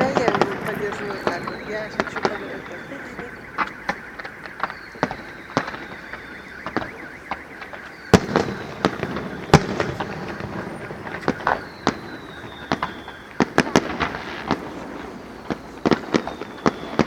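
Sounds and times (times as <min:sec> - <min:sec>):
fireworks bursting: 0:00.0 - 0:17.0
fireworks crackling: 0:00.0 - 0:17.0
high firework whistle: 0:00.0 - 0:17.0.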